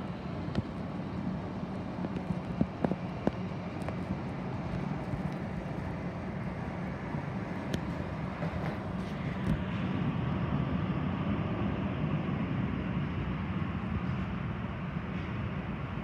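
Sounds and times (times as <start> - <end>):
muffled jet engines idling: 0.0 - 16.0.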